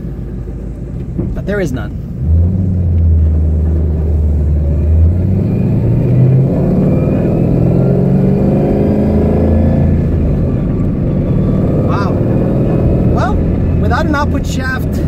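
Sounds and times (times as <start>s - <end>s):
car engine revving up: 1.1s - 15.0s.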